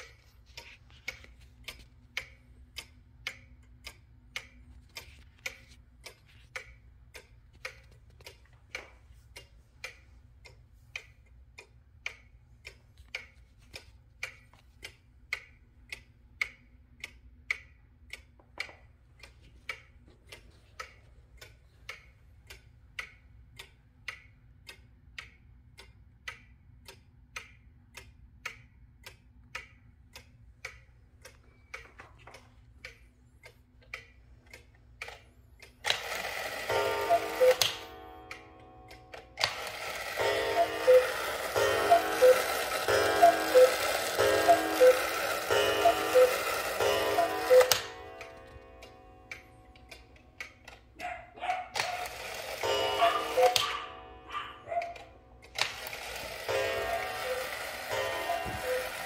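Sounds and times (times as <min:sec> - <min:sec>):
cuckoo clock ticking: 0:00.0 - 0:59.0.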